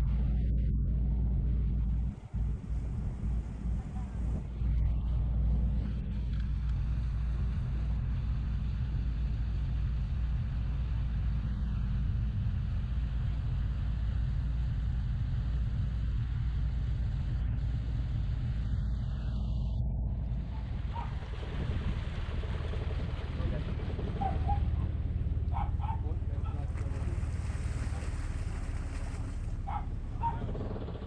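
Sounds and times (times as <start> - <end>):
boat engine drone: 0.0 - 31.0.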